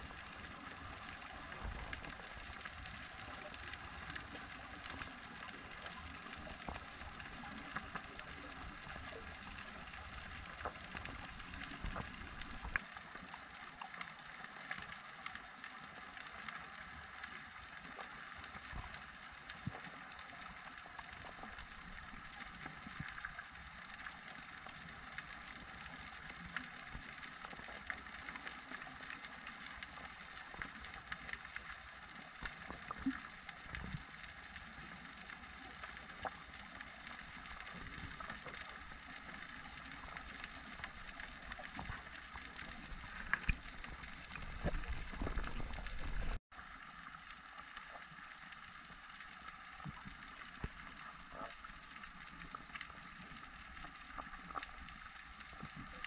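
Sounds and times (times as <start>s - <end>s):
underwater hiss with crackles: 0.0s - 56.0s.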